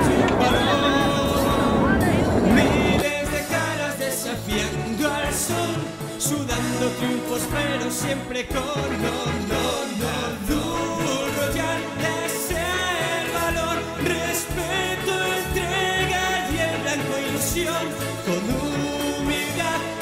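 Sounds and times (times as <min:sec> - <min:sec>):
person singing over a beat: 0:00.0 - 0:20.0.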